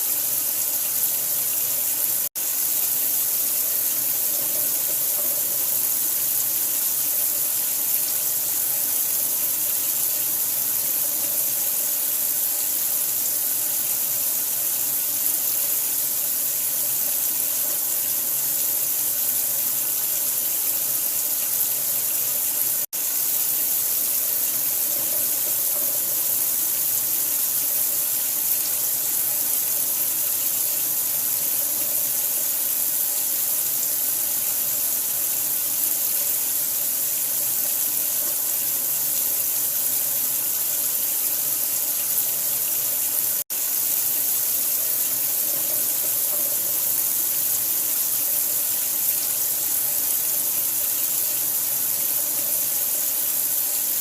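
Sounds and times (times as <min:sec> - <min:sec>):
flowing water hiss: 0:00.0 - 0:54.0.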